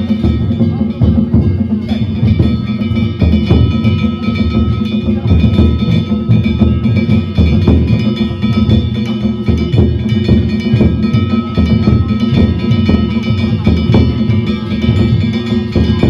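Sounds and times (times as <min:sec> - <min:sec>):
small metal gongs clanging: 0:00.0 - 0:16.0
taiko drum fast rhythm: 0:00.0 - 0:16.0.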